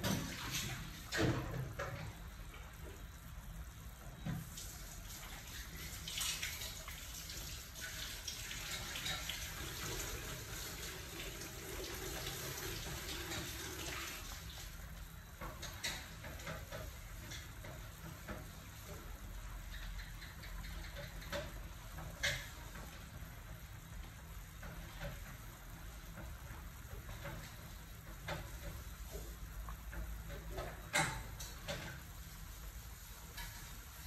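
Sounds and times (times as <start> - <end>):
soup boiling and bubbling: 0.0 - 34.0.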